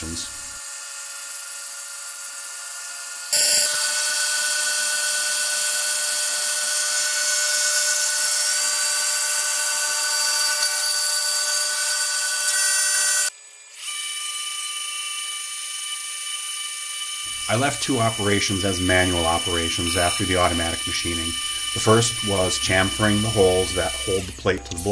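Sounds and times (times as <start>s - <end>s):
milling machine cutting whine: 0.0s - 24.9s.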